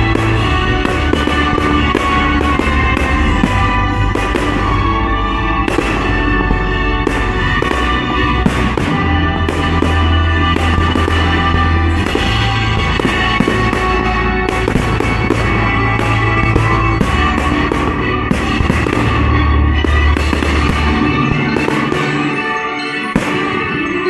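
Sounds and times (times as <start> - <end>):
classical music playing loud: 0.0 - 24.0
firework shells bursting and crackling: 0.0 - 24.0.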